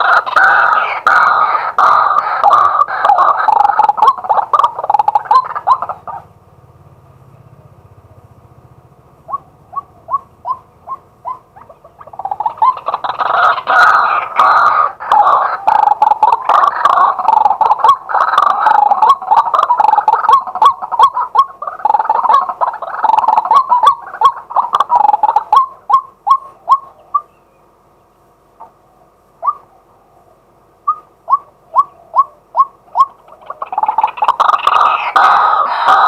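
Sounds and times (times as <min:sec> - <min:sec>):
waterhen calling: 0:00.0 - 0:06.4, 0:09.2 - 0:27.7, 0:28.6 - 0:36.0.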